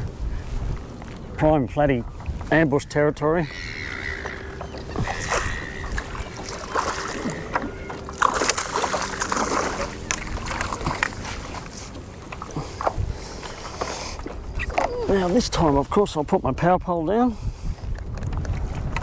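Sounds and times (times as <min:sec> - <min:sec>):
water splashing and sloshing: 0:00.0 - 0:16.4.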